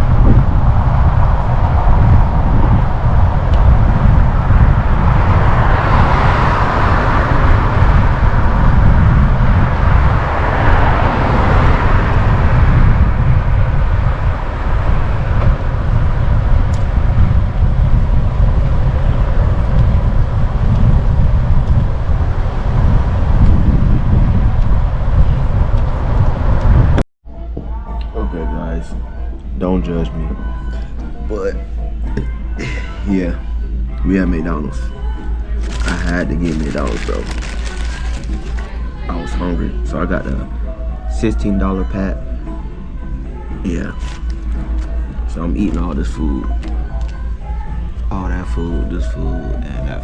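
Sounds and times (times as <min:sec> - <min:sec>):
road traffic: 0:00.0 - 0:27.0, 0:34.8 - 0:41.2, 0:42.1 - 0:50.0
vehicles passing: 0:00.0 - 0:27.0, 0:30.8 - 0:50.0
wind rumbling on microphone: 0:00.0 - 0:27.0, 0:30.3 - 0:50.0.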